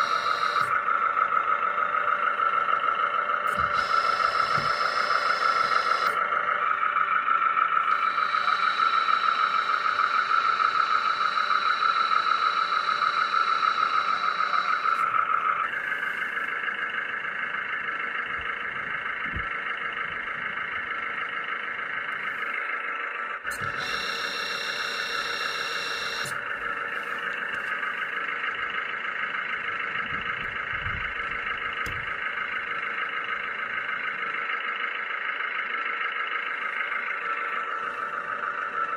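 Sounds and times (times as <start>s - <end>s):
thin high-pitched whine: 0.0s - 35.0s, 35.6s - 38.9s
hydraulic pump electric whine: 0.0s - 38.9s.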